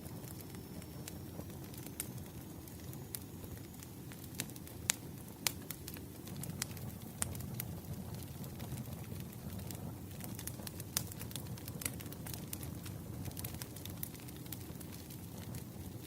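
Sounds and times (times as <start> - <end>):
low rumble of burning firewood: 0.0 - 16.0
wood fire crackling: 0.0 - 16.0.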